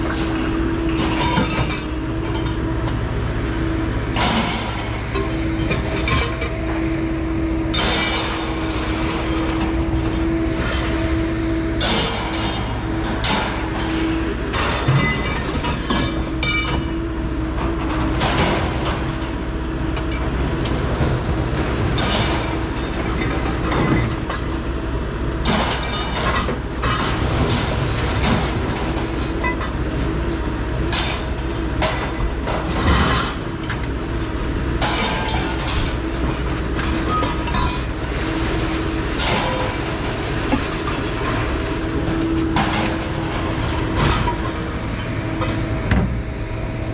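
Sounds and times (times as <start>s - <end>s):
vehicle rumbling: 0.0s - 46.9s.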